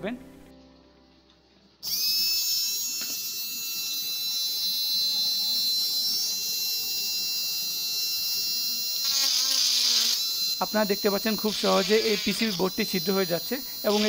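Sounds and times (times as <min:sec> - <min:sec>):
small motor high whine: 0:01.8 - 0:14.0.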